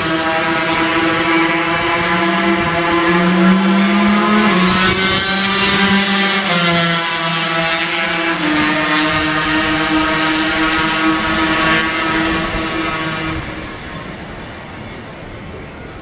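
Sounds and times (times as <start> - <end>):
racing motorcycle engines: 0.0 - 16.0.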